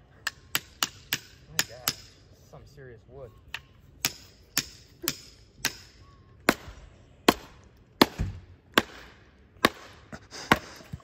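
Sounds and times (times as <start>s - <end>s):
hatchet chopping firewood: 0.2s - 2.2s, 3.6s - 11.0s.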